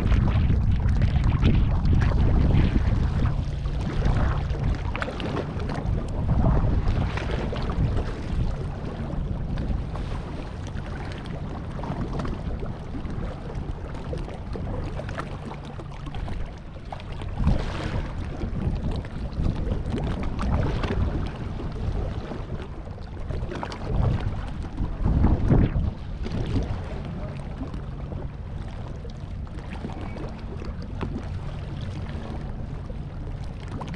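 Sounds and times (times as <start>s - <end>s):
sea water washing against rocks: 0.0s - 33.9s
wind buffeting microphone: 0.0s - 33.9s.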